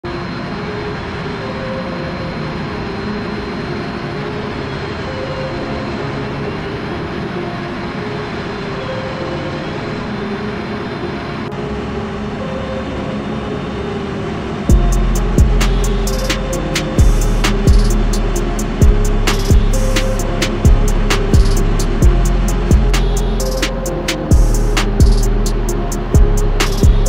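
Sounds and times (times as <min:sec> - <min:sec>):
jet cockpit engine and airflow noise: 0:00.0 - 0:27.0
thin high whine: 0:00.0 - 0:27.0.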